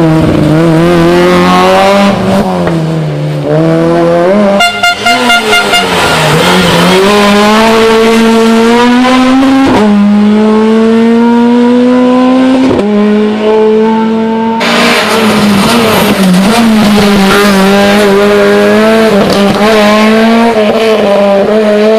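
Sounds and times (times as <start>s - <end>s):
rally car engine accelerating: 0.0s - 21.9s.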